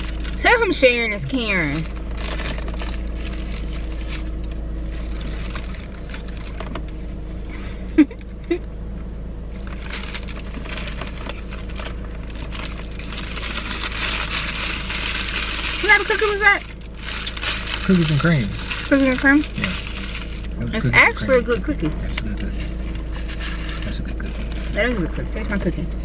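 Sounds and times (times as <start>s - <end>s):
wrapper crinkling: 0.0s - 7.0s, 9.6s - 25.7s
steady low rumble: 0.0s - 26.0s.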